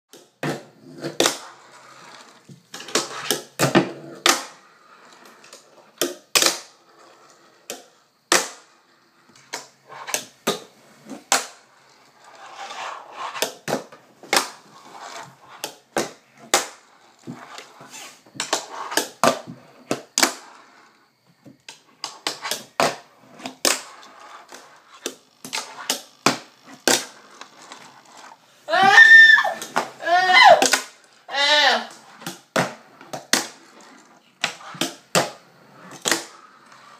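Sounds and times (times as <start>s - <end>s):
small wheels rolling: 0.1s - 36.9s.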